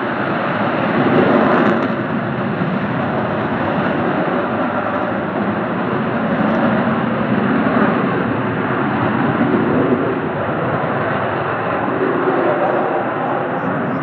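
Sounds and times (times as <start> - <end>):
aircraft engine rushing: 0.0 - 14.0.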